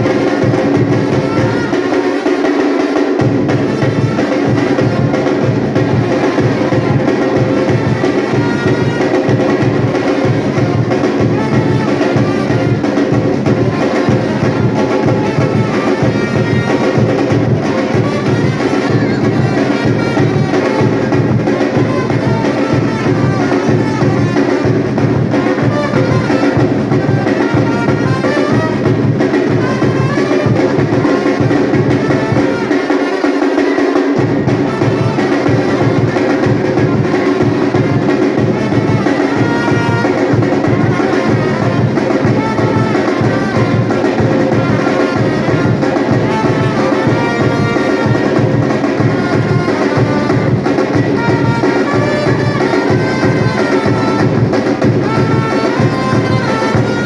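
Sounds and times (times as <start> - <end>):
drum group playing: 0.0 - 57.0.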